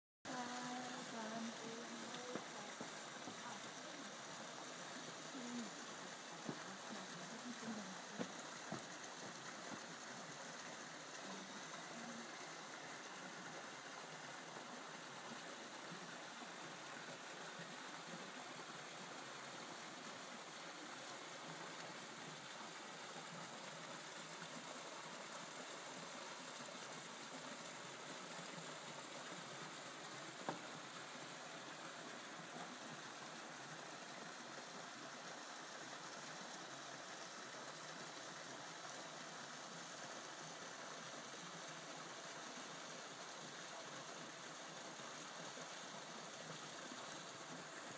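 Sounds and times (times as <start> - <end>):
stream flowing over rocks: 0.3 - 47.9.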